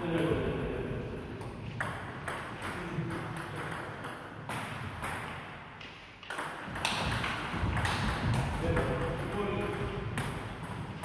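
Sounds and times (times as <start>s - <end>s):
table tennis balls clicking: 1.4s - 11.0s.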